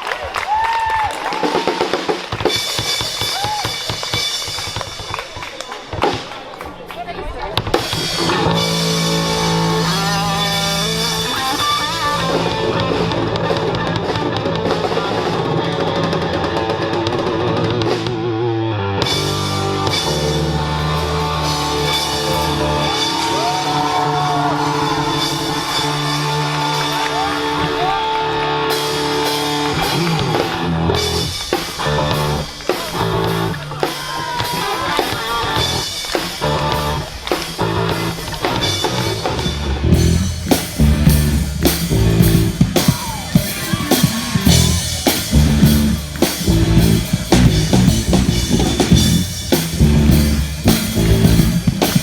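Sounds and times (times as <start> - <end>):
live rock band playing: 7.6 - 52.0.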